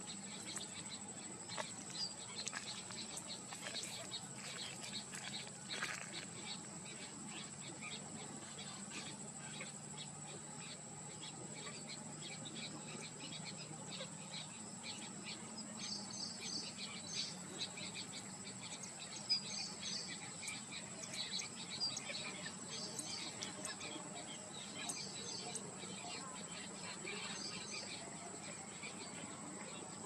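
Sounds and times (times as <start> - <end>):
birds chattering and chirping: 0.0 - 30.0.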